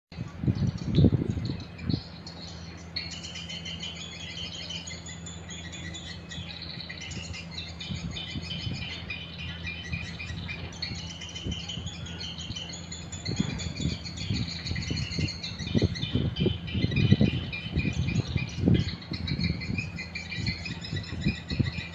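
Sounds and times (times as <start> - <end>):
low rumbling bursts: 0.1 - 21.9
steady low hum: 0.1 - 21.9.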